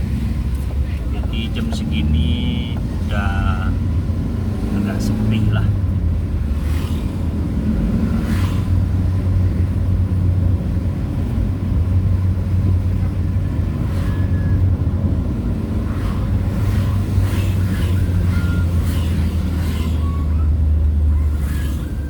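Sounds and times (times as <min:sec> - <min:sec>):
vehicle engine and road hum: 0:00.0 - 0:22.0.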